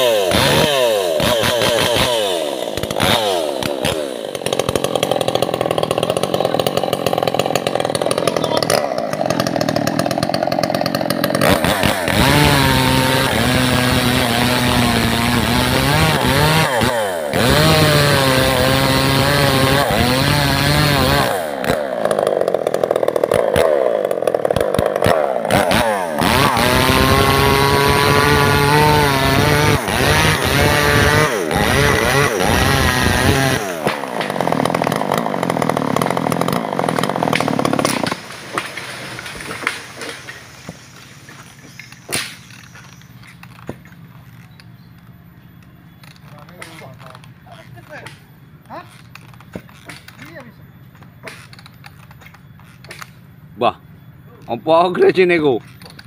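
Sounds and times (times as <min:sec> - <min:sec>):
chainsaw cutting tree trunk: 0:00.0 - 0:45.0.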